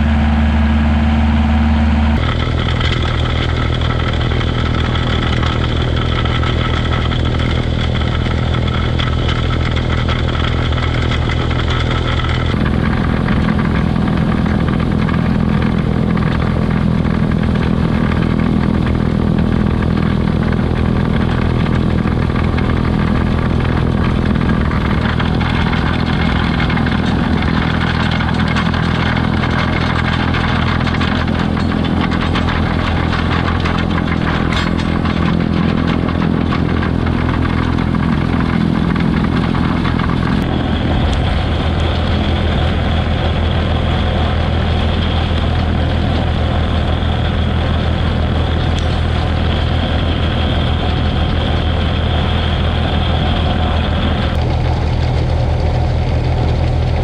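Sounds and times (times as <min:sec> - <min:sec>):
snowblower whine: 0:00.0 - 0:57.0
tractor diesel engine: 0:00.0 - 0:57.0.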